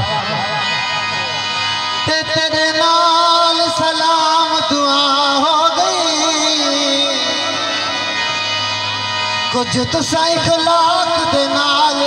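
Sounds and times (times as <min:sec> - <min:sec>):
harmonium: 0:00.0 - 0:12.0.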